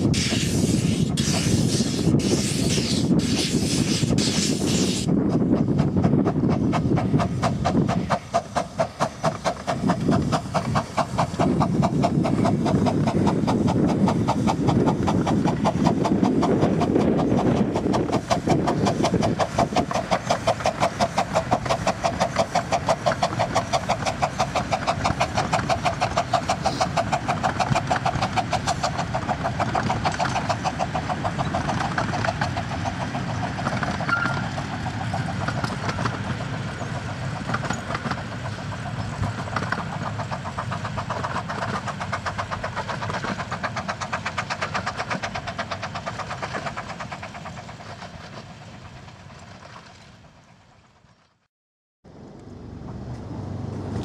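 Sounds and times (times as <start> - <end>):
steam locomotive chuffing: 0.0 - 51.2.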